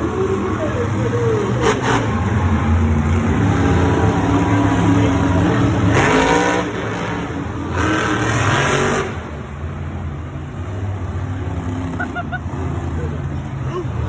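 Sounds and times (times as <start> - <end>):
monster truck engines revving: 0.0 - 14.0.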